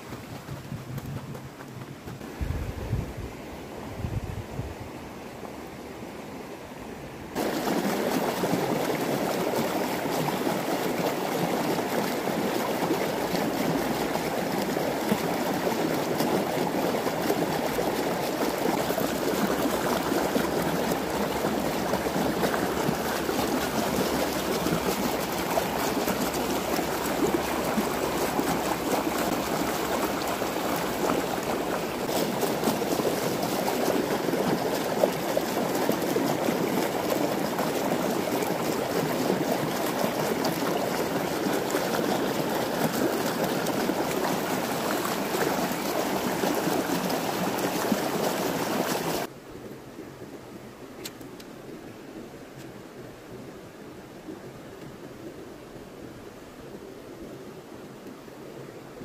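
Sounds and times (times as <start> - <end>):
creek water rushing over stones: 0.0 - 2.8, 7.2 - 59.0.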